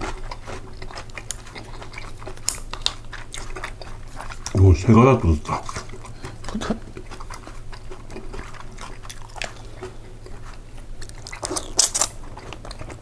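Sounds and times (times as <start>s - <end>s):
person chewing pasta: 0.0s - 13.0s.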